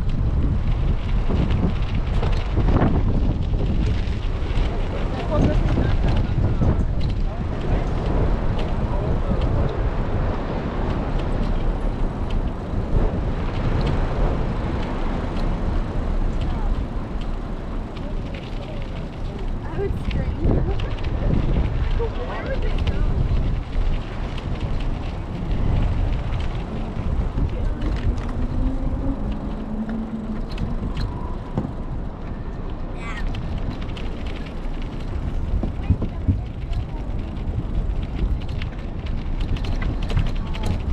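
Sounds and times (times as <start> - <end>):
bicycle clicks and rattles: 0.0 - 40.9
wind buffeting microphone: 0.0 - 40.9.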